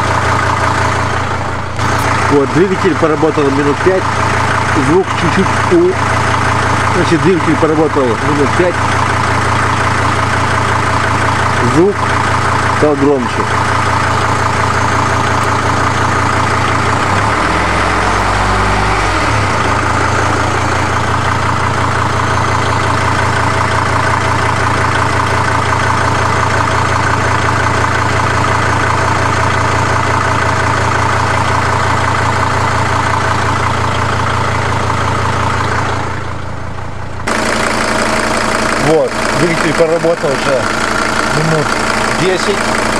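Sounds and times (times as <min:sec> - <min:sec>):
diesel engine idling: 0:00.0 - 0:42.9
rhythmic engine knock: 0:00.0 - 0:42.9.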